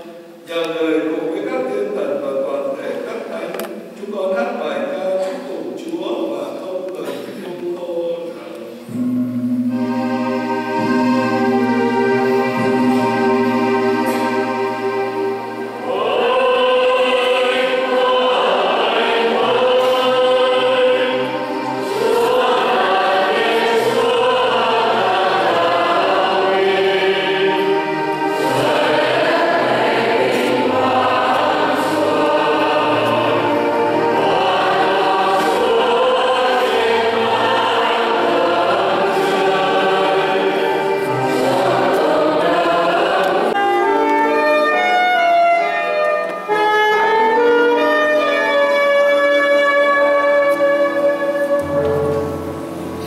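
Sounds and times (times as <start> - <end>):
choir singing a slow hymn: 7.4 - 53.0
held instrumental notes: 8.6 - 53.0.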